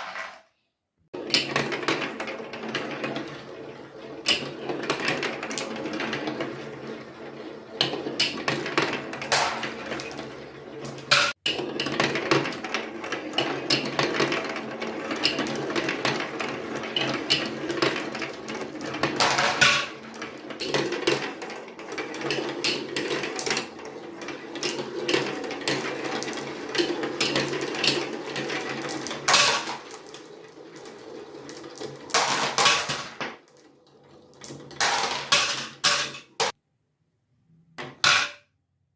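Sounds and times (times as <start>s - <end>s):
marbles rolling down plastic track: 0.0s - 0.5s, 1.2s - 36.6s.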